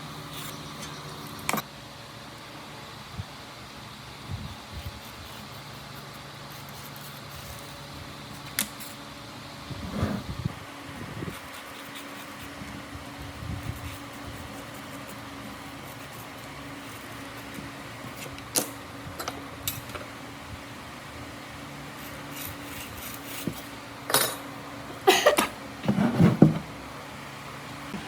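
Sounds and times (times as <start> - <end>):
fan-like hum: 0.0 - 28.0.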